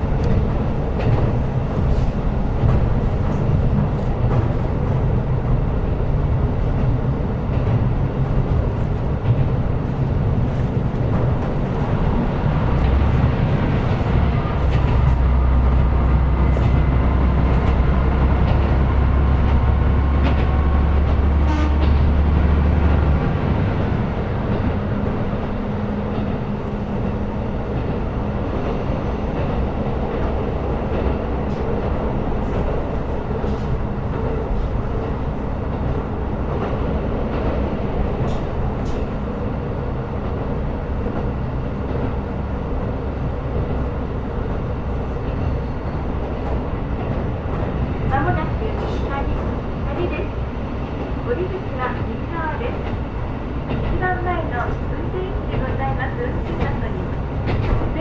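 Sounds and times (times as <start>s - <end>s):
train rolling along rails: 0.0s - 58.0s.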